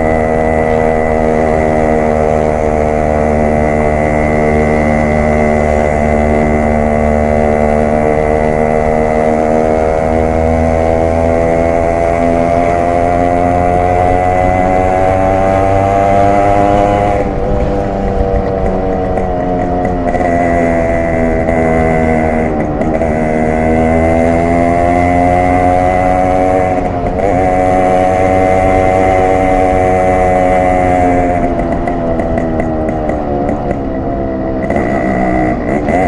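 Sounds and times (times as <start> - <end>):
two-stroke motorcycle engine accelerating: 0.0 - 36.0.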